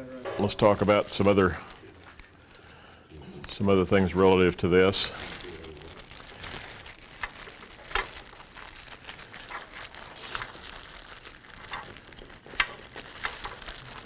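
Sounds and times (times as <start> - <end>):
plastic bag crinkling: 0.5 - 14.0.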